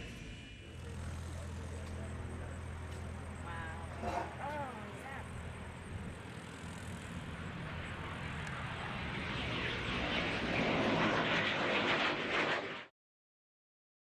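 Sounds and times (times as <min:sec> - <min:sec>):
jet engine rushing: 0:00.0 - 0:12.9.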